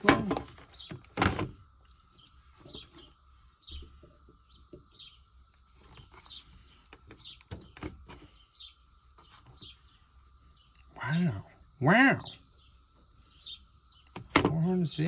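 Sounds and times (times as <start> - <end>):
faint high hum: 0.0 - 15.0
small bird chirping: 0.0 - 15.0.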